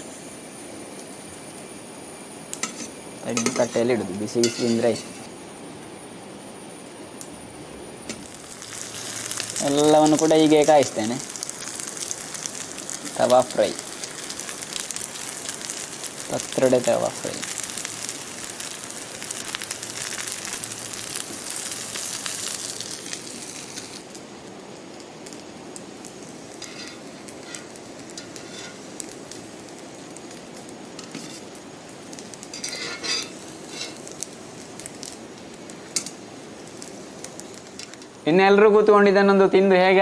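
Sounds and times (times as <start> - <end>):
food sizzling in oil: 0.0 - 40.0.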